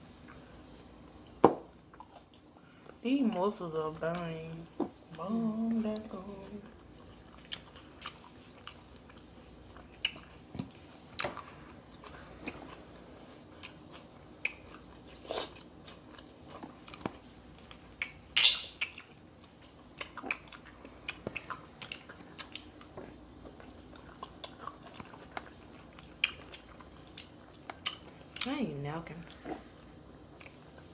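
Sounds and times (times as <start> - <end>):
chewing and mouth sounds: 0.2 - 28.6, 29.2 - 30.9.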